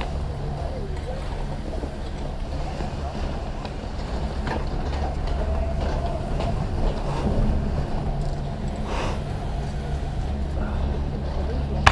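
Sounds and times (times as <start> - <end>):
machinery droning: 0.0 - 11.9.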